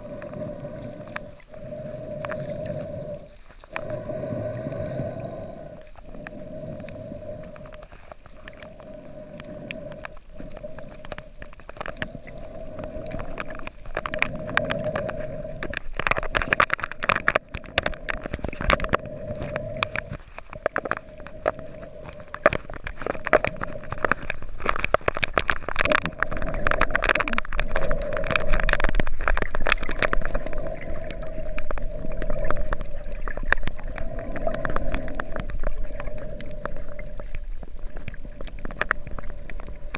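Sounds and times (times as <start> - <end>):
crackling clicks underwater: 0.0 - 39.9
underwater hum: 0.0 - 39.9
water movement: 0.0 - 39.9.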